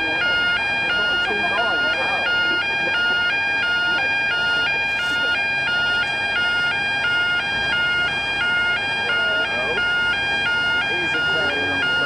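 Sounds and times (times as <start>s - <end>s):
level crossing alarm warble: 0.0s - 12.0s.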